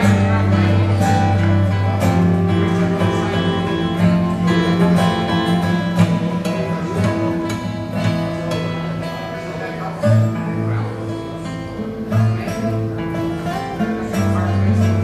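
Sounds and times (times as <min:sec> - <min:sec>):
acoustic guitars picked and strummed: 0:00.0 - 0:15.0.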